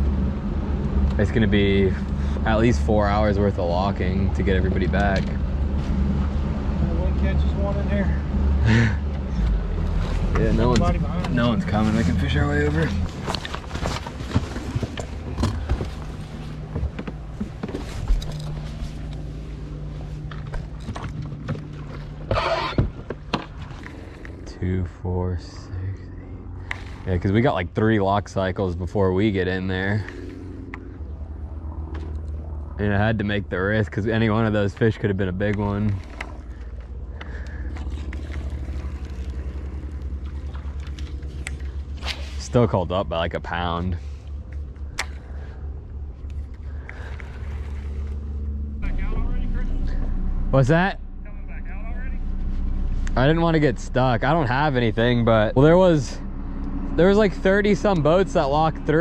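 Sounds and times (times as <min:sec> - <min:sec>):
boat motor humming: 0:00.0 - 0:59.0.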